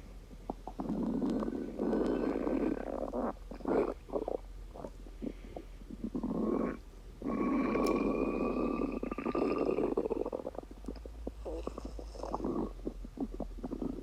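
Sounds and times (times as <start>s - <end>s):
stomach rumbling: 0.3s - 14.0s.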